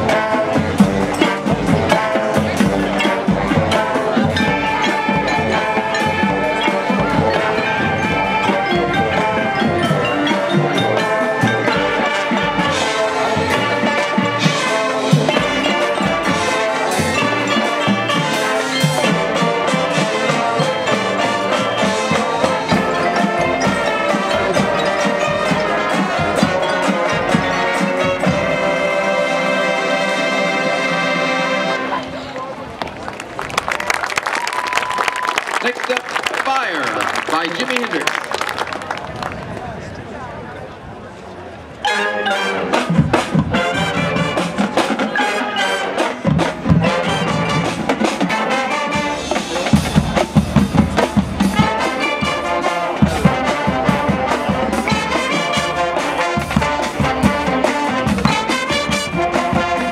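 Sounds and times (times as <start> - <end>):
brass playing: 0.0 - 32.2, 41.8 - 59.9
drumline: 0.0 - 59.9.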